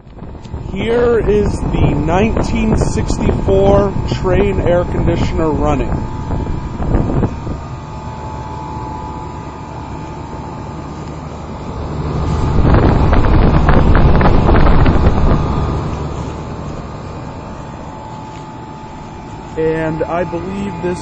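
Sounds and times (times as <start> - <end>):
air conditioner unit humming: 0.0 - 21.0.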